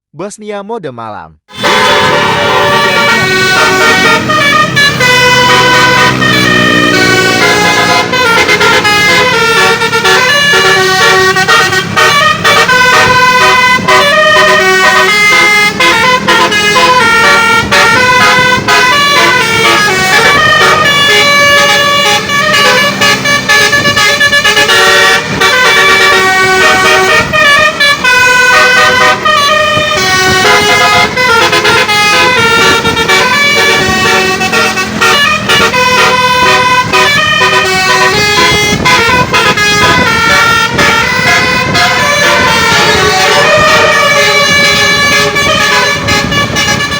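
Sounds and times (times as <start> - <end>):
multi-tone air horn playing tune: 1.5 - 46.9.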